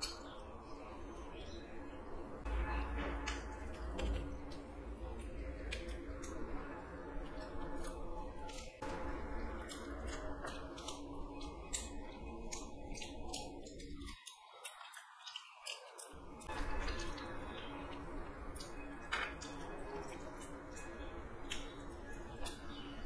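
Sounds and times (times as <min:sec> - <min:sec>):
crunchy topping crackling: 0:00.0 - 0:23.0.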